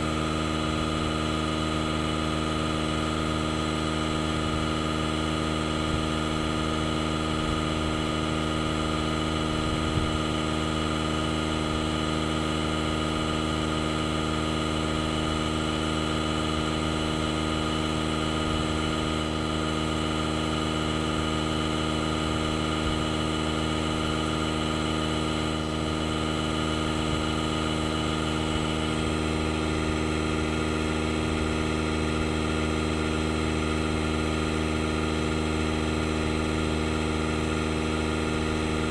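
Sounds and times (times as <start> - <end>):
air compressor droning: 0.0 - 38.9.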